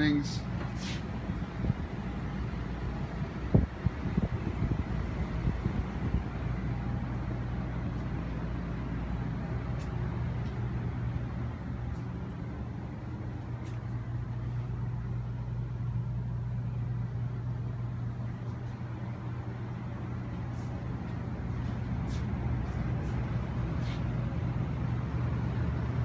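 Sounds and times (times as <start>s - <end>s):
air conditioner hum: 0.0s - 26.0s.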